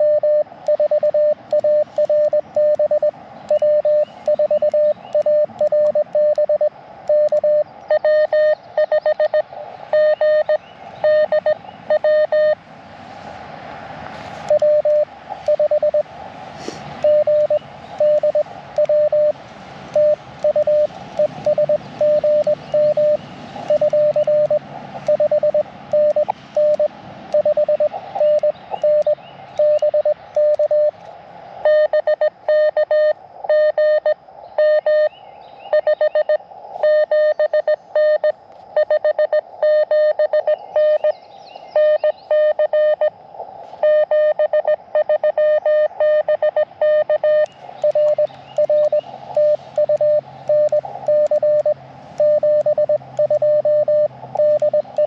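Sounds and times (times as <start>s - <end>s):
morse code tone: 0.0s - 12.6s, 14.4s - 16.1s, 17.0s - 31.0s, 31.6s - 35.1s, 35.7s - 41.1s, 41.8s - 43.2s, 43.8s - 55.0s
receiver band hiss: 0.0s - 55.0s.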